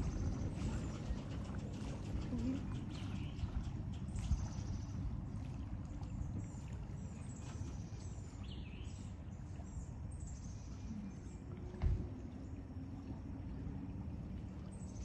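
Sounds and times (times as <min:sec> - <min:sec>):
boat motor rumbling: 0:00.0 - 0:15.0.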